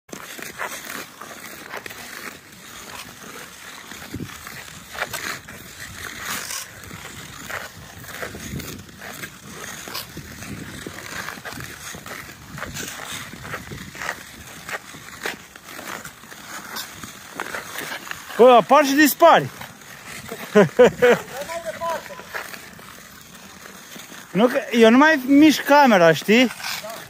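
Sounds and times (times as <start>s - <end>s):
ice skate blades scraping ice: 0.1s - 27.0s.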